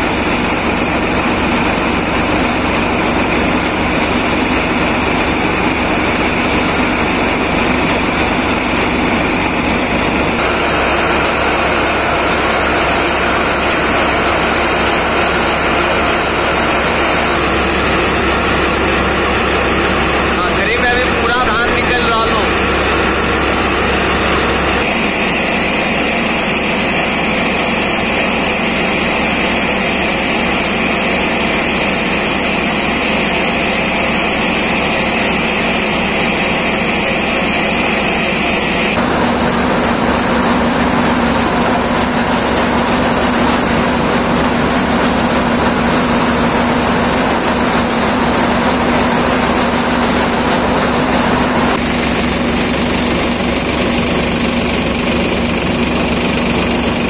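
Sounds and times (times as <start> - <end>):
threshing machine running: 0.0 - 57.0
tractor engine droning: 0.0 - 57.0.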